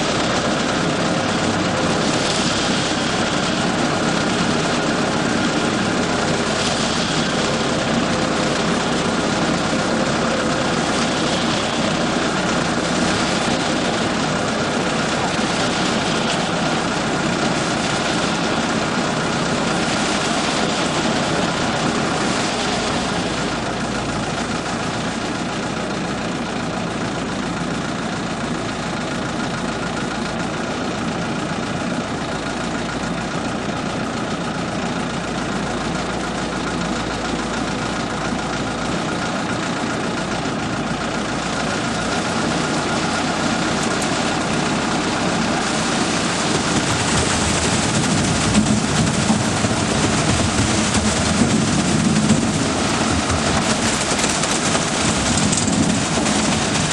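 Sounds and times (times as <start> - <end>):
diesel engine running at low revs: 0.0 - 56.9.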